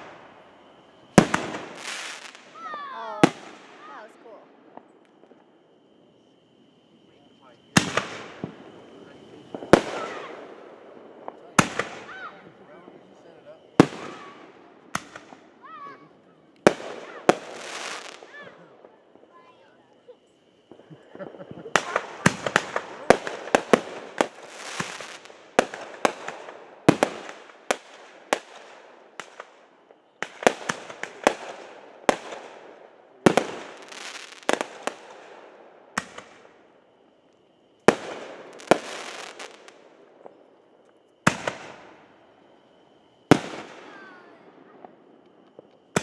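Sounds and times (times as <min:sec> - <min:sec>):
fireworks bangs and cracks: 0:00.0 - 0:05.6, 0:06.8 - 0:46.0
fireworks crackle: 0:00.0 - 0:46.0.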